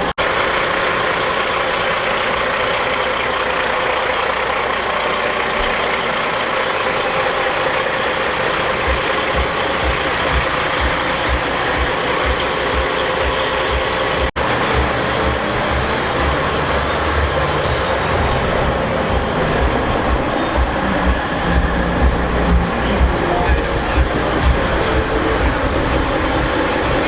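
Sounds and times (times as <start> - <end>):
diesel truck engine running: 0.0 - 27.0
low pulses: 4.6 - 27.0.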